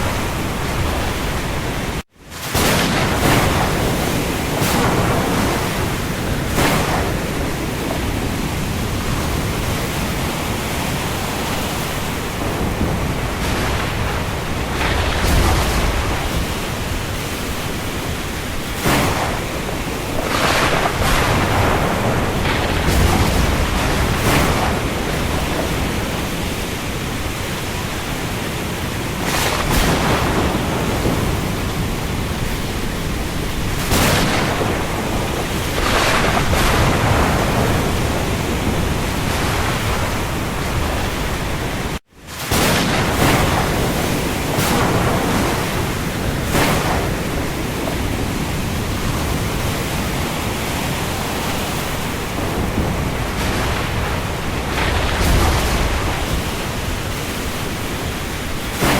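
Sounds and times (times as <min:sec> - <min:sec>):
heavy rain at sea: 0:00.0 - 0:58.9.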